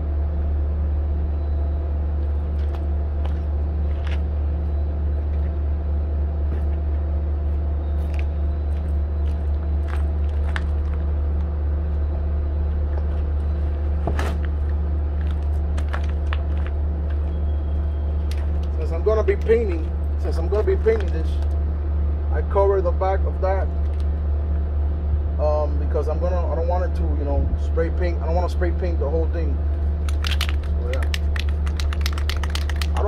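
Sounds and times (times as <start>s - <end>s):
engine idling drone: 0.0s - 33.0s.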